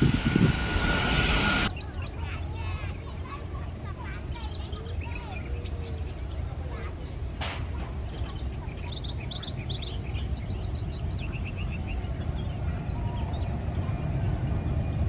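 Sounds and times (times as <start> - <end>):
jet airliner engines rumbling: 0.0 - 15.0
small birds chirping: 1.7 - 15.0.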